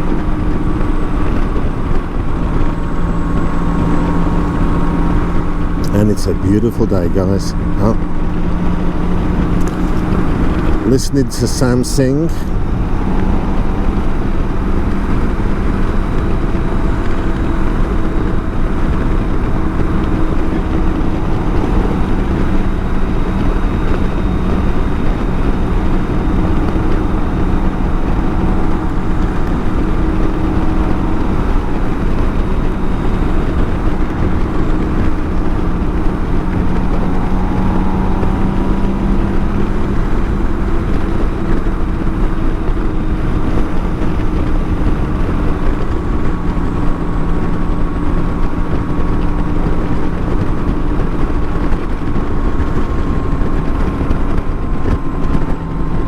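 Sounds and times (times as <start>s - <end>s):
motorcycle engine running: 0.0s - 56.0s
road noise: 0.0s - 56.0s
rushing wind: 0.0s - 56.0s.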